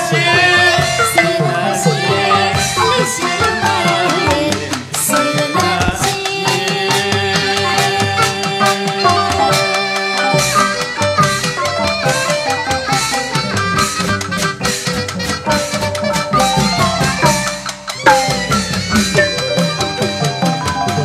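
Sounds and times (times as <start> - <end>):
drums and gongs: 0.0 - 21.0.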